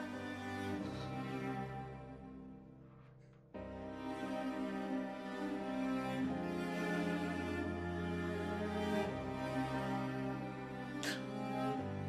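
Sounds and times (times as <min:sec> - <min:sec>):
slow bowed string music: 0:00.0 - 0:12.0.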